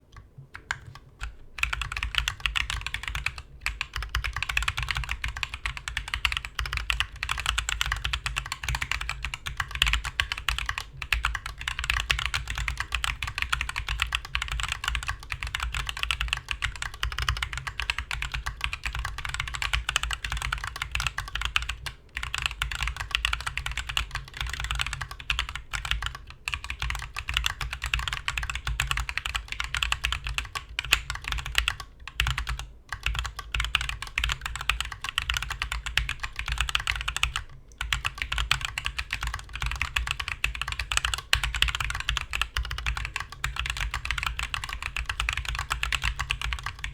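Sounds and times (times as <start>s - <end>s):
mechanical keyboard typing: 0.1s - 46.9s.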